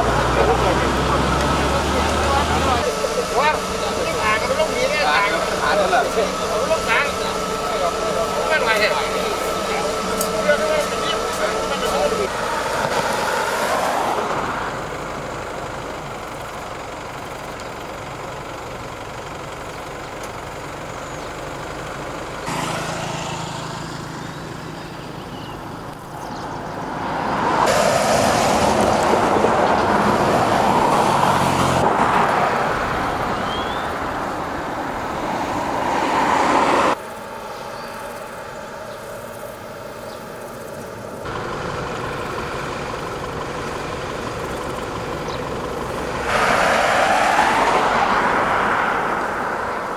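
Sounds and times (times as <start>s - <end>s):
vehicle engines and traffic: 0.0s - 49.9s.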